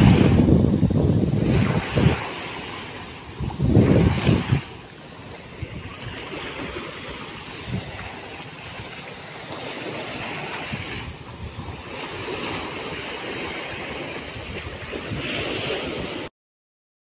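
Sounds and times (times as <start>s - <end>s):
small waves breaking on shore: 0.0s - 16.3s
wind rumbling on microphone: 0.0s - 16.3s.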